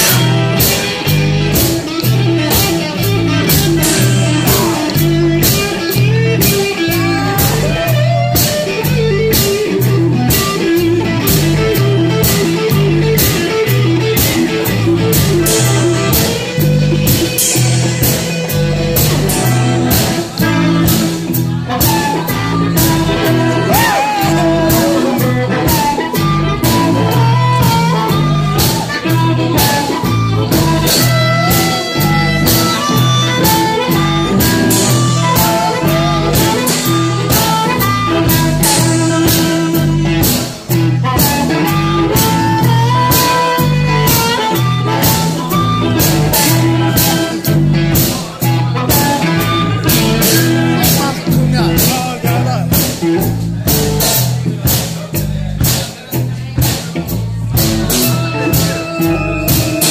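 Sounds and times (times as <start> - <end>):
blues band playing: 0.0 - 59.9.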